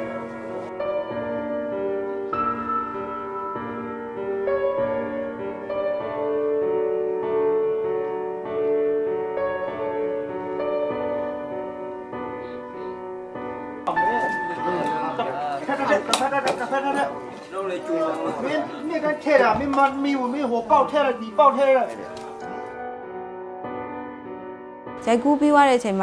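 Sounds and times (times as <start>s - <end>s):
slow gentle piano piece: 0.0s - 25.9s.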